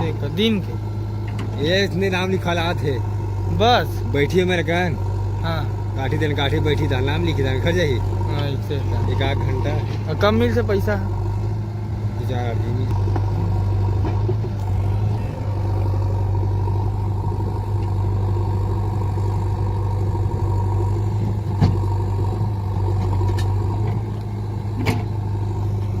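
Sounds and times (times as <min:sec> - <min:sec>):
heavy diesel engine humming: 0:00.0 - 0:26.0.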